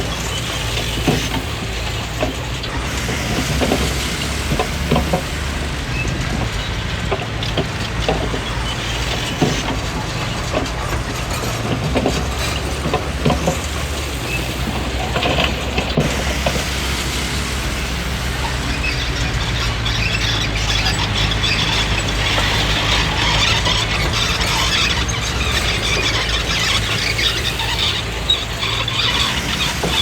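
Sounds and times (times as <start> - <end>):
diesel engine running: 0.0 - 30.0
steel tracks squealing and clattering: 0.0 - 30.0.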